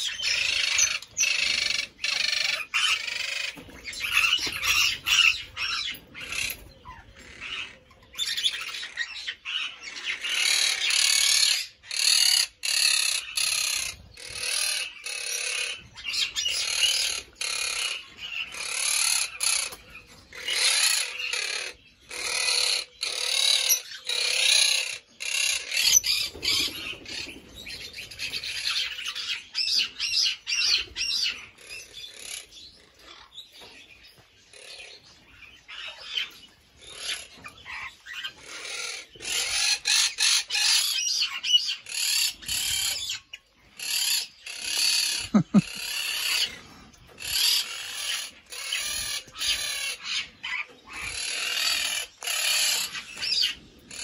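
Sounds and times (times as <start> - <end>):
parrots calling shrilly: 0.0 - 33.4, 34.5 - 54.0.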